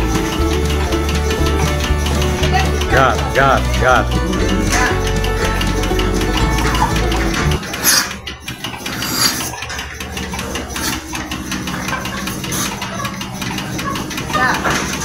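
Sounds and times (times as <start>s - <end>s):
fast regular ticking: 0.0s - 15.0s
milking machine vacuum hum: 0.0s - 15.0s.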